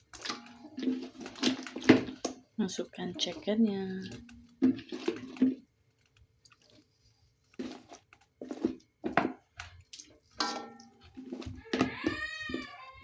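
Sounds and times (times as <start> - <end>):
wet splashes into boiling water: 0.0 - 13.0.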